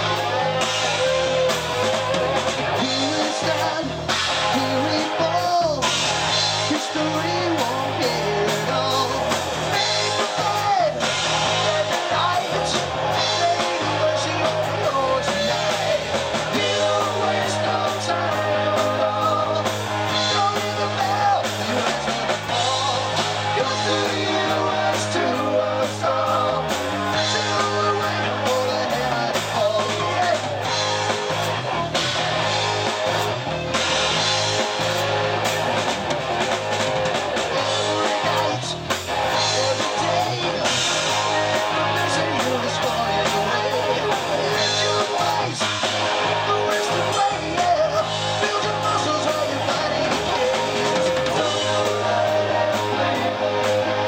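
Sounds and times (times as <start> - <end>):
person singing: 0.0 - 30.7, 37.5 - 54.0
distorted electric guitars: 0.0 - 54.0
drum kit: 0.0 - 54.0.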